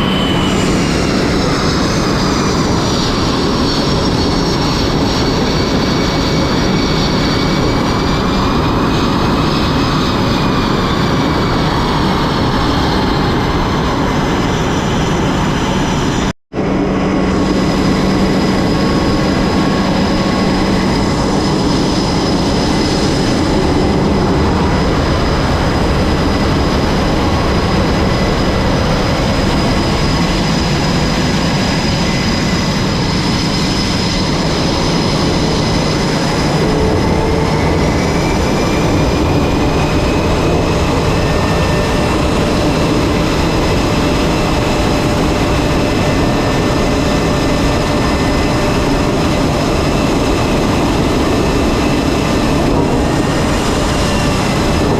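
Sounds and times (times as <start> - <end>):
jet engine whining: 0.0 - 54.9.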